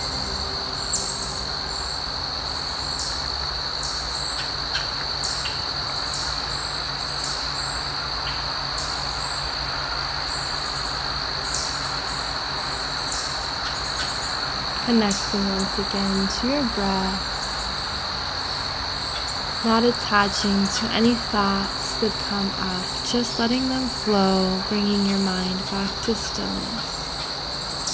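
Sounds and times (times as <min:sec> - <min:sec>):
insect chorus trilling: 0:00.0 - 0:27.9.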